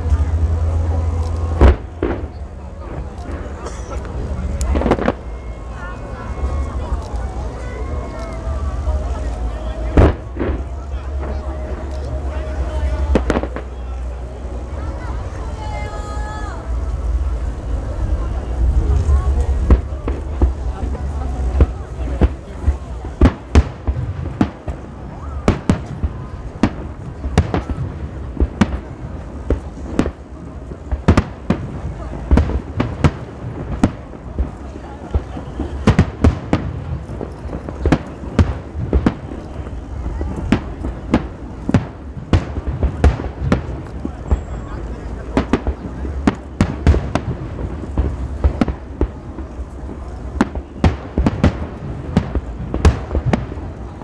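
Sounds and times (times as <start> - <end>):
fireworks bursting: 0.0 - 54.0
low continuous rumble: 0.0 - 54.0.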